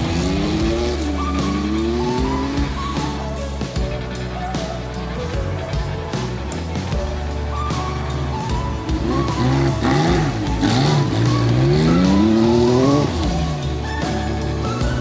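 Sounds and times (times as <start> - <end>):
background music: 0.0 - 15.0
rally car engine revving: 0.0 - 15.0.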